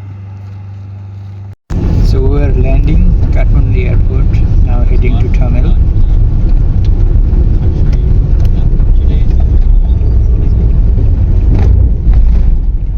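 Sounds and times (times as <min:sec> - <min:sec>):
vehicle rumbling in motion: 0:00.0 - 0:12.9.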